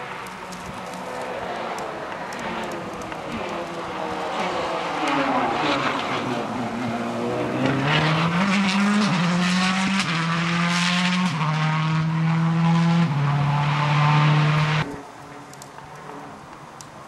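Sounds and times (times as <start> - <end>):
rally car engine at full speed: 0.0 - 16.4.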